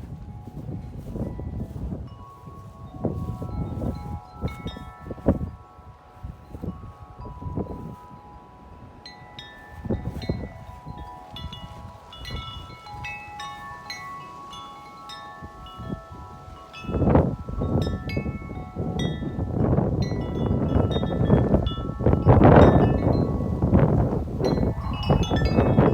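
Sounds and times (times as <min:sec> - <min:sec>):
tubular wind chime ringing: 0:00.0 - 0:25.9
wind buffeting microphone: 0:00.0 - 0:25.9.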